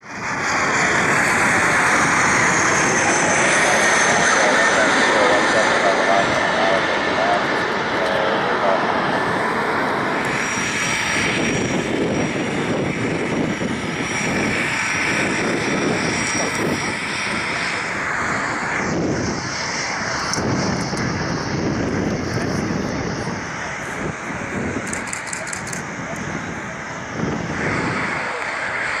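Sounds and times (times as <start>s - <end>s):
jet engine roar: 0.0s - 29.0s.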